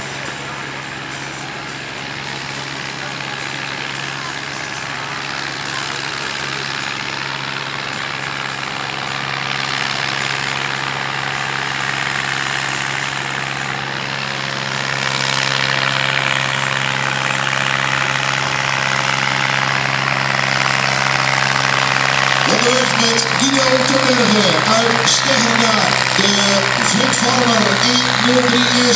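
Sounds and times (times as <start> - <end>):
tractor diesel engine drone: 0.0 - 28.9.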